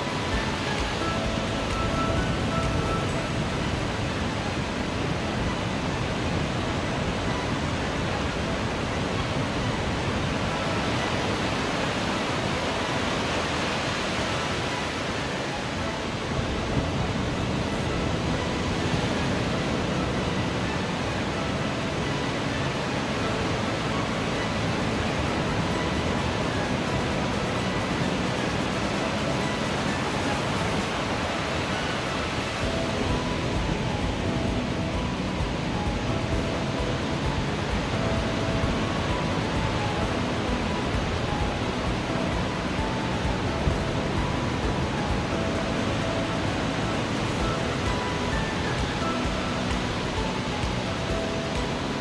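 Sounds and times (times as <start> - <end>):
ocean surf on a beach: 0.0 - 52.0.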